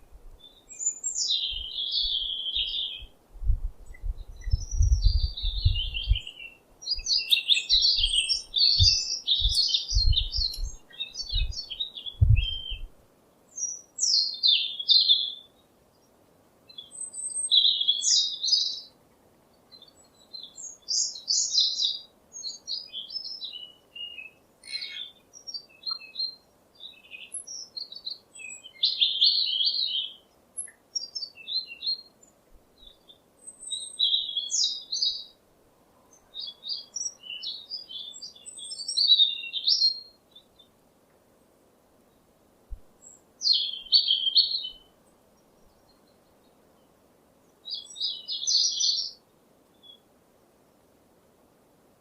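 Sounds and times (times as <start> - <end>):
songbird chirping: 0.0 - 51.6.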